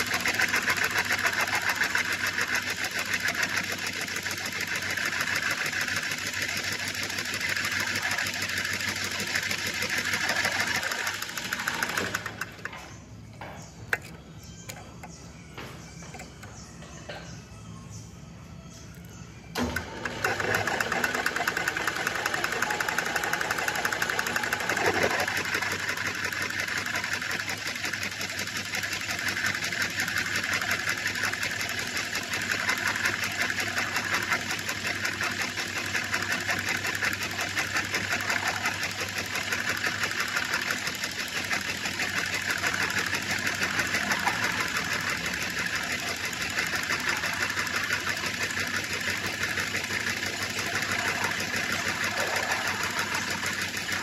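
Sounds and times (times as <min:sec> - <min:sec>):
metal lathe rattling: 0:00.0 - 0:15.2, 0:19.6 - 0:54.0.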